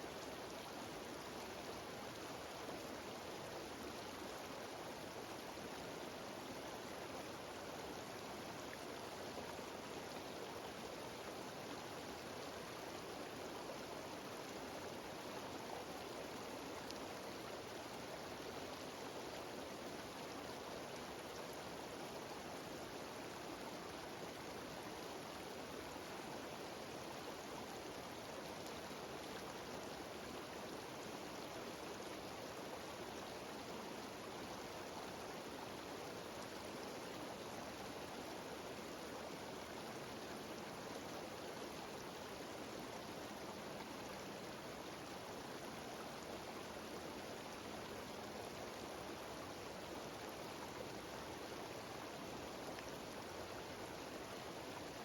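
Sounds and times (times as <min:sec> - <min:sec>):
waterfall over rocks: 0:00.0 - 0:55.0.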